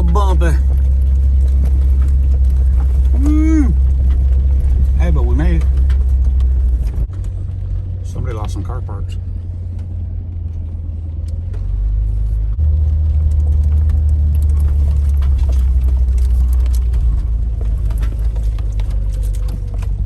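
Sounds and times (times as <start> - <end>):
knocks and rattles: 0.0 - 8.7, 12.6 - 20.0
vehicle rumbling over dirt track: 0.0 - 20.0.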